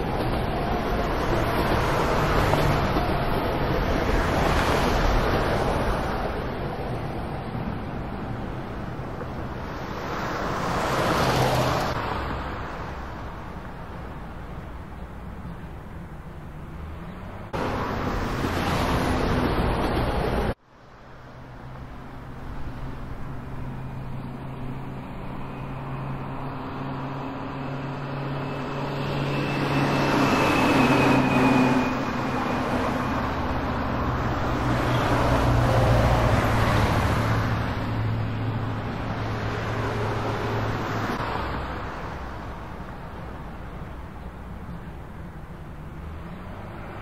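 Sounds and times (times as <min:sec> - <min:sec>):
traffic engine hum: 0:00.0 - 0:47.0
vehicles passing: 0:00.0 - 0:47.0.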